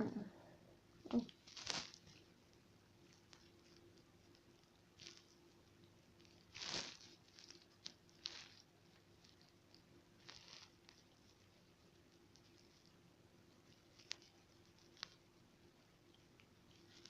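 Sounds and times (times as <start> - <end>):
faint rustling: 0.0 - 17.0.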